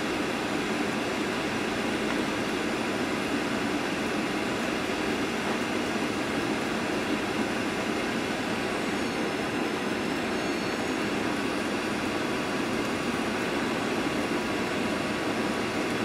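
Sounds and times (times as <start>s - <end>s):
jet engine hum: 0.0s - 16.0s.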